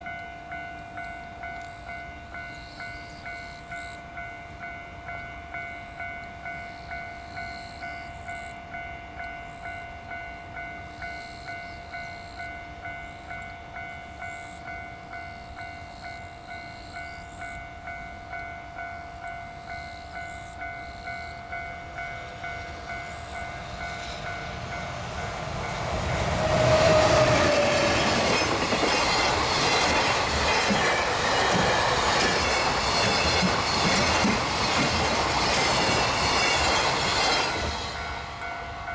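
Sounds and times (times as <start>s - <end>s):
freight train passing: 0.0s - 38.9s
crossing alarm bell ringing: 0.1s - 38.9s.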